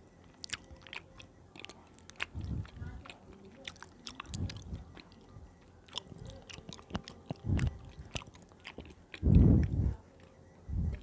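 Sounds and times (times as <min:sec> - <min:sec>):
close chewing with mouth clicks: 0:00.0 - 0:11.0.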